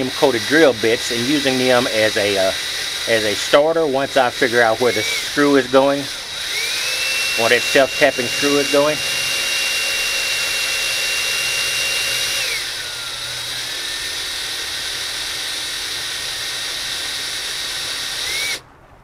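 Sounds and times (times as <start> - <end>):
power drill whining: 0.0 - 18.6.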